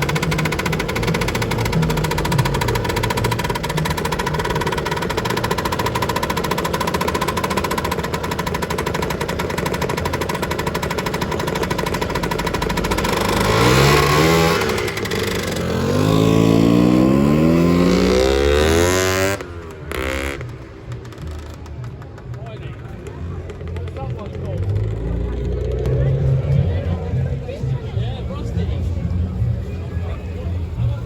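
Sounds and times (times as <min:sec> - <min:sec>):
scooter accelerating away: 0:00.0 - 0:31.0
two-stroke scooter engines running: 0:00.0 - 0:31.0.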